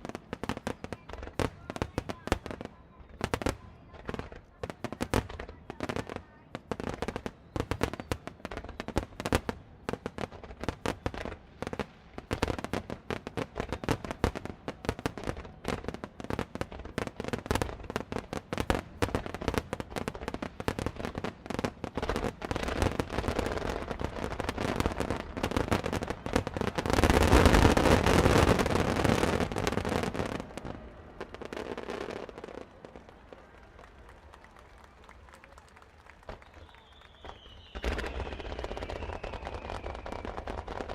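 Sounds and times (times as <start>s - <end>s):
fireworks bursts and crackling: 0.0s - 40.9s.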